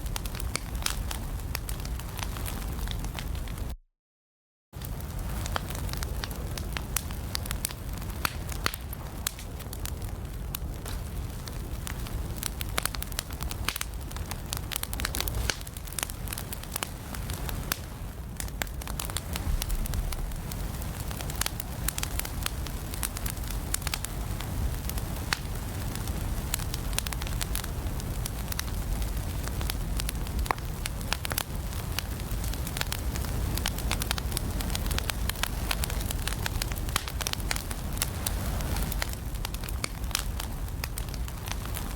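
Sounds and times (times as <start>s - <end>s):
low rumble of flames: 0.0s - 3.8s, 4.8s - 41.9s
wood fire crackling and popping: 0.0s - 3.8s, 4.8s - 41.9s.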